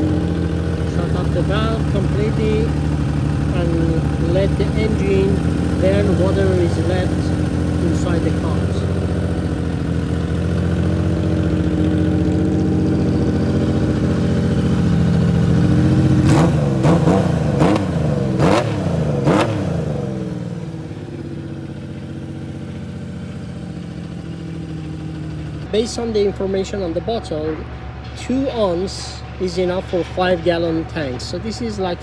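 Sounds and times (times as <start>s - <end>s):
motorcycle engine running and revving: 0.0s - 32.0s.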